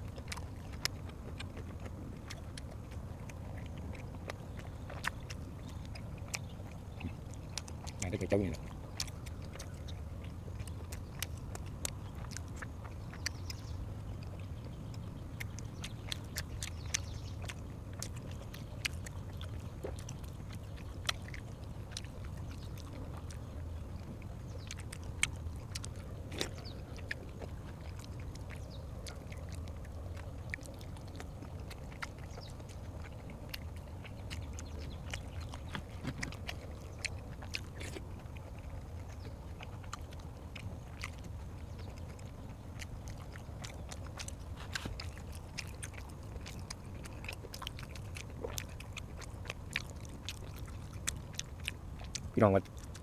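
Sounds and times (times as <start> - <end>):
mouth clicks and smacks: 0.0 - 53.0
person chewing food: 0.0 - 53.0
steady low hum: 0.0 - 53.0.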